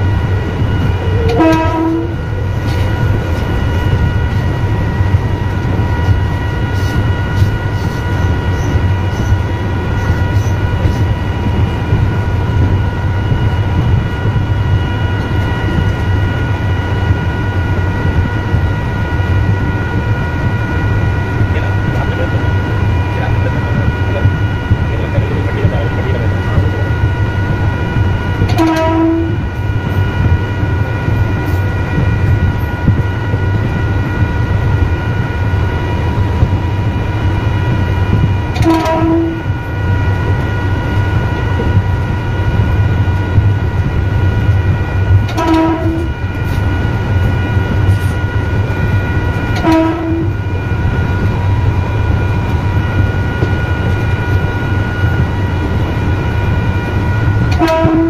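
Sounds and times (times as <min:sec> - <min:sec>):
electric train rumble and whine: 0:00.0 - 0:58.0.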